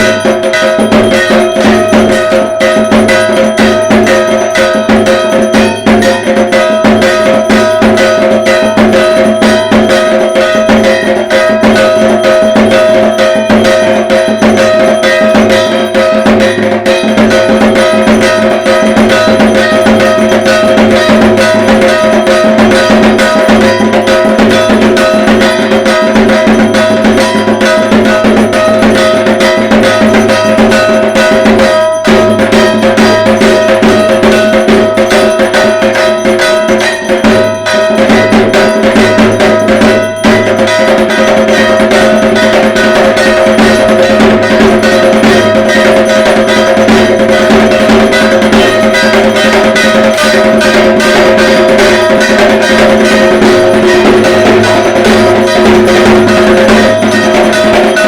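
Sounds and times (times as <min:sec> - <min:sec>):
bright metallic ringing: 0:00.0 - 0:58.0
drums playing fast rhythm: 0:00.0 - 0:58.0.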